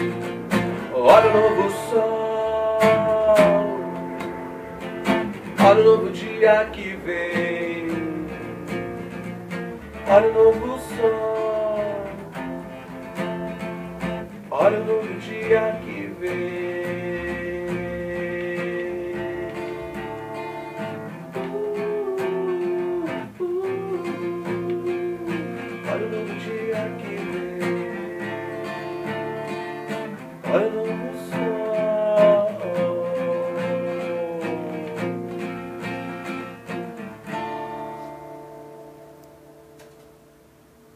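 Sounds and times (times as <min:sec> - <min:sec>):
guitar-led instrumental band music: 0:00.0 - 0:40.9.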